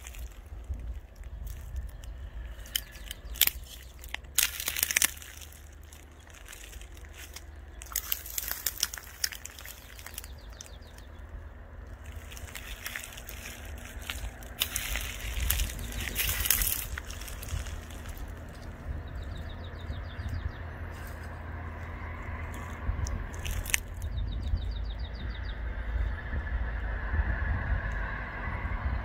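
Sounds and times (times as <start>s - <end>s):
dry twigs crackling and snapping: 0.0s - 24.7s
low steady rumble: 0.0s - 29.0s.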